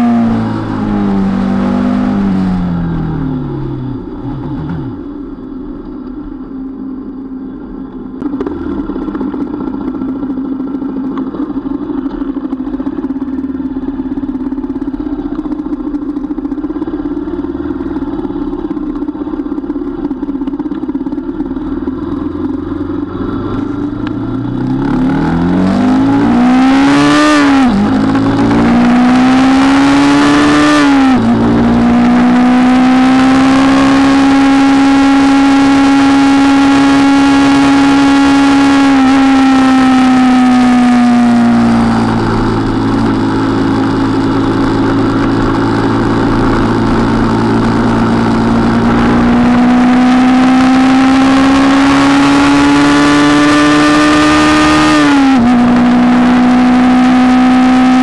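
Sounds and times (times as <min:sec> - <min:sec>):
motorcycle engine revving: 0:00.0 - 0:06.4, 0:08.2 - 0:58.0.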